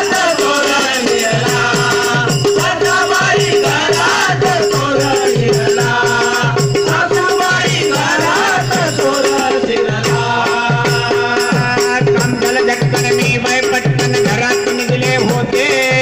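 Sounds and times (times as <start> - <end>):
drum beat: 0.0 - 16.0
hand cymbals jingling: 0.0 - 16.0
voices singing: 0.0 - 16.0.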